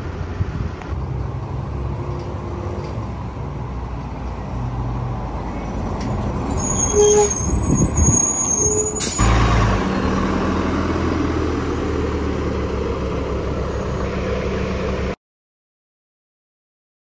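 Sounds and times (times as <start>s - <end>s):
bus engine idling: 0.0s - 15.2s
bus passing close: 0.0s - 15.2s.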